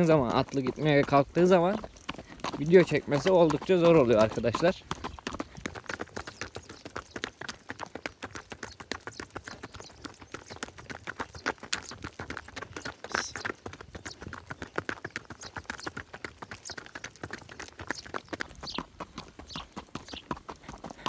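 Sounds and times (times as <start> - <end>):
horse hooves clopping on dirt: 0.0 - 21.0.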